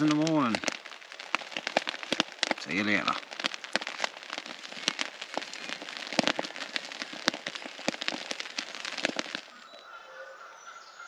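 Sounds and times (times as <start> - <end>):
heavy rain on a tarp: 0.0 - 9.6.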